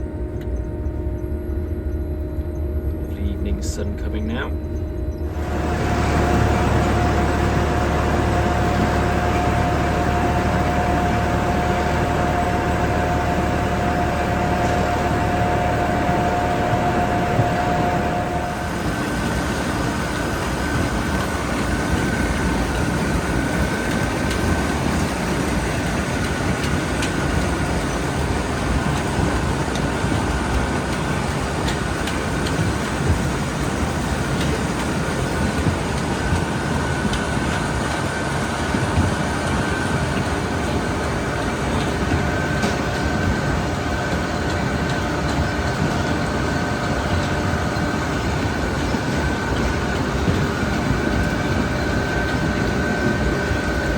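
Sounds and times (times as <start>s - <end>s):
harvester rumble and rattle: 0.0s - 53.9s
steady high whine: 0.0s - 53.9s.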